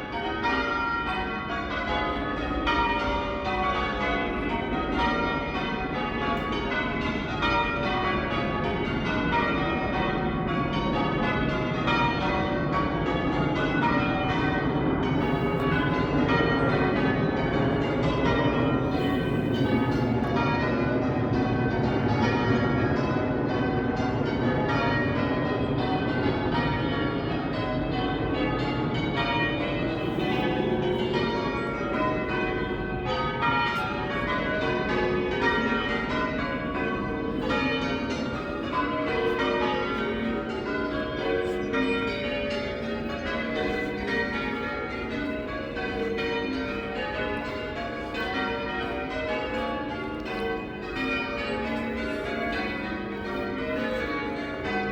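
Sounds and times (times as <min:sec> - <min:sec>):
church bells ringing in sequence: 0:00.0 - 0:54.9.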